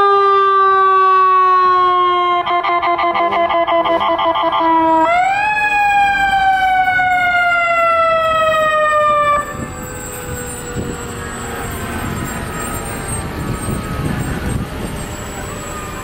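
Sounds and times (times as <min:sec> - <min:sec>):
electronic siren yelp and wail: 0:00.0 - 0:16.0
traffic: 0:00.0 - 0:16.0
vehicle engine: 0:02.5 - 0:16.0.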